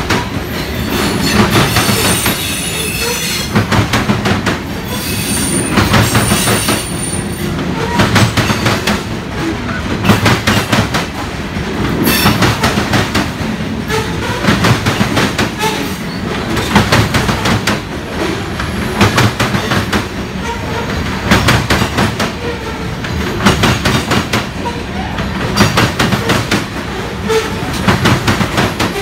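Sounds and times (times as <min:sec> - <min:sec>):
freight train rumble: 0:00.0 - 0:29.0
wheels clacking over rail joints: 0:00.0 - 0:29.0.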